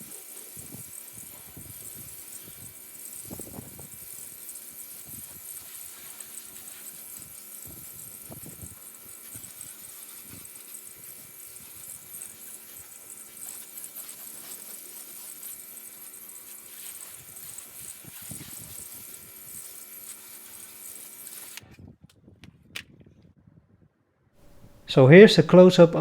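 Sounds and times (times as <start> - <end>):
water spraying from hose: 0.0 - 21.6.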